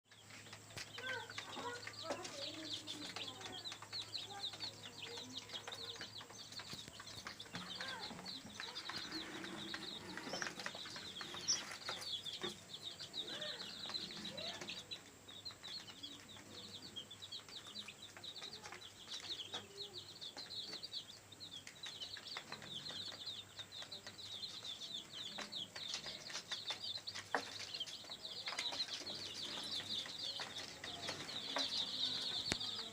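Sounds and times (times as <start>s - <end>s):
chicks peeping: 0.1s - 32.9s.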